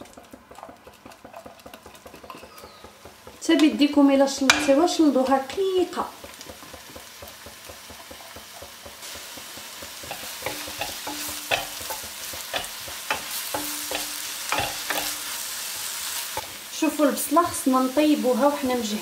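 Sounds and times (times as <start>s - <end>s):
wooden spatula scraping a pan: 0.0s - 16.5s
onion sizzling in butter: 0.0s - 19.0s.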